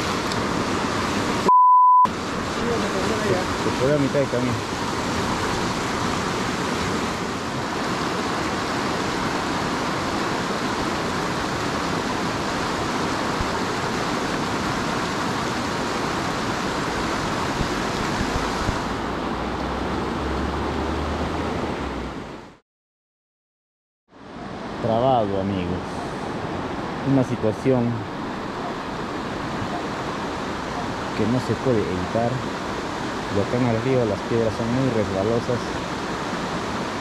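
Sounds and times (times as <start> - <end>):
river rushing: 0.0 - 1.5, 2.1 - 22.6, 24.1 - 37.0.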